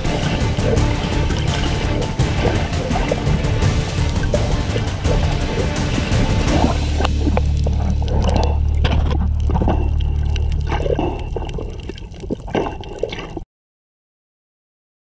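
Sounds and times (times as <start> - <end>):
muffled underwater hum: 0.0 - 13.4
water sloshing and bubbling: 0.0 - 13.5.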